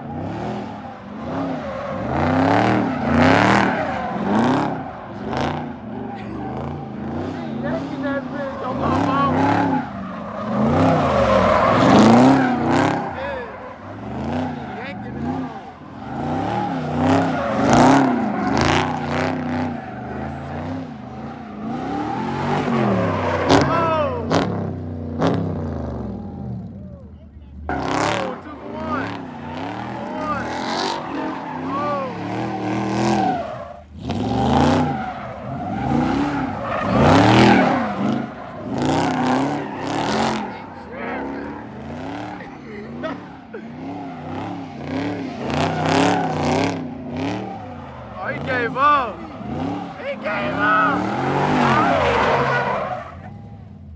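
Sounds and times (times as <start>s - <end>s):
car engine revving hard: 0.0s - 26.8s, 27.5s - 53.9s.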